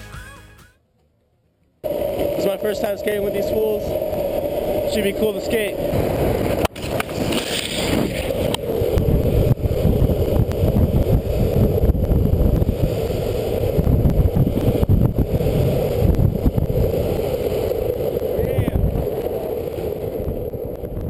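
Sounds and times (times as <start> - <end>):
wind buffeting microphone: 1.8 - 21.0.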